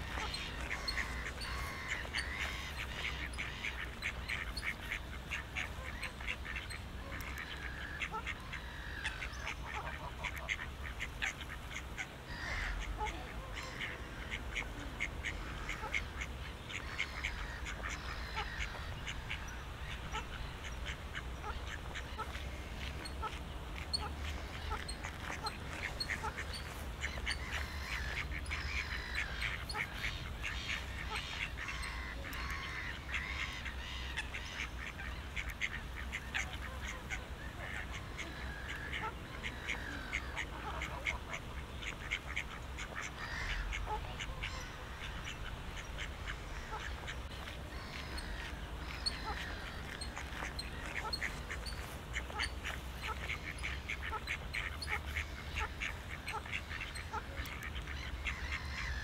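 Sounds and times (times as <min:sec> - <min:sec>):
ducks quacking: 0:00.0 - 0:59.0
small birds chirping: 0:00.0 - 0:59.0.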